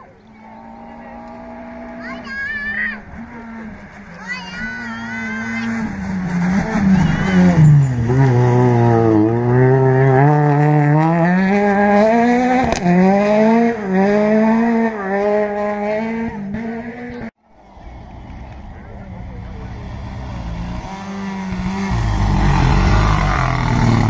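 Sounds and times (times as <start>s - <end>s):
rally car engine revving past: 0.2s - 24.0s.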